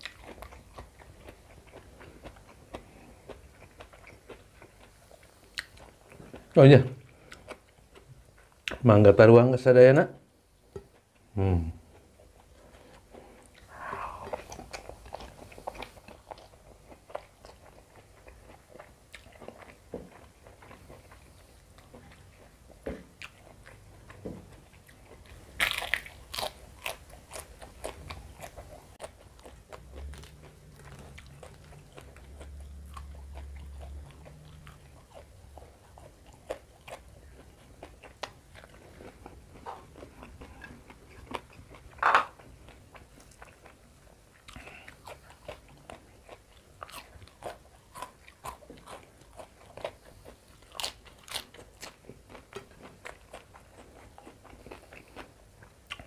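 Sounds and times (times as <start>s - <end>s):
crunching and chewing food: 0.0s - 8.9s, 10.6s - 56.0s.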